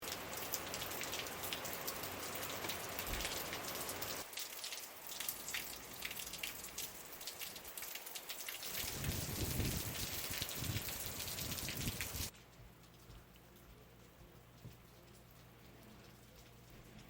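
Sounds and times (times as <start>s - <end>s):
water droplets pattering: 0.0s - 17.0s.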